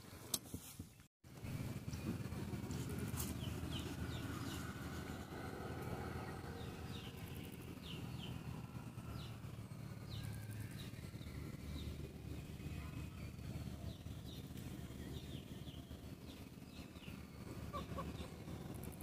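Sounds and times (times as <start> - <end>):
steady low rumble: 1.3 - 19.0.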